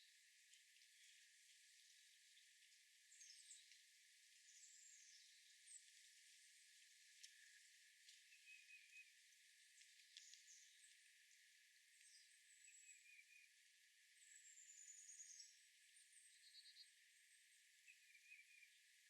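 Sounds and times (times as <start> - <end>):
steady outdoor hiss: 0.0 - 19.0
faint birds chirping: 0.8 - 19.0.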